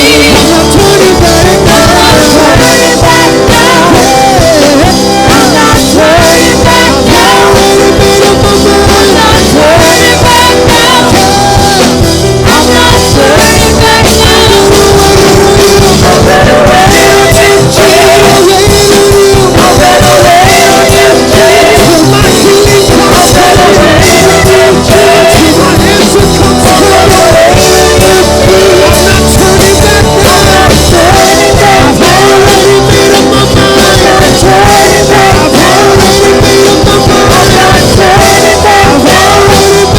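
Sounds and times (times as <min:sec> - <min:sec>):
guitar: 0:00.0 - 0:39.9
people singing: 0:00.0 - 0:39.9
worship band playing: 0:00.0 - 0:39.9.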